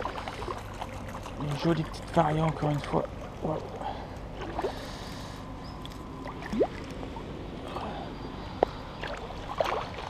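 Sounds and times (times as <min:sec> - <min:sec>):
shallow river water running: 0:00.0 - 0:10.0.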